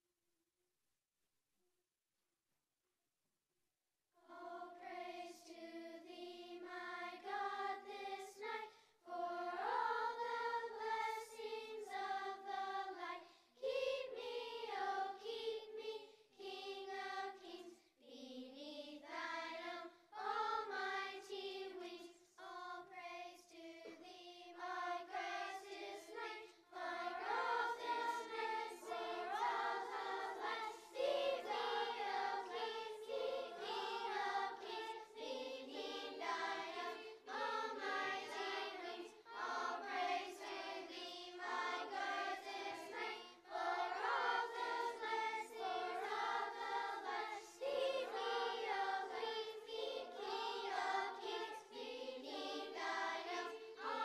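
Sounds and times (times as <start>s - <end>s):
children's choir singing: 4.2s - 54.0s.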